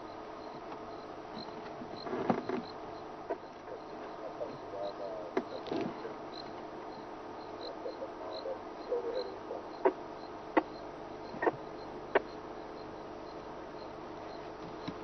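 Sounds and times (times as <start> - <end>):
faint steady hum: 0.0 - 15.0
insects chirping: 0.0 - 15.0.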